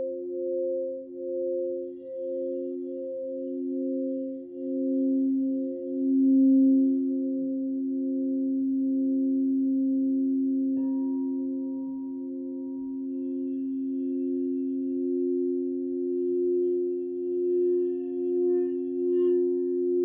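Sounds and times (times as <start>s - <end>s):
bowl struck: 0.0s - 20.0s
crystal singing bowls ringing: 0.0s - 20.0s.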